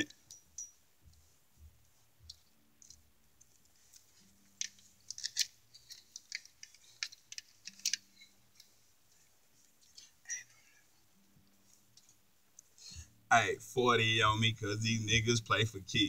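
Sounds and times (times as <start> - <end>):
small clicks and rustles: 0.0 - 13.1
faint low hum: 0.0 - 16.0.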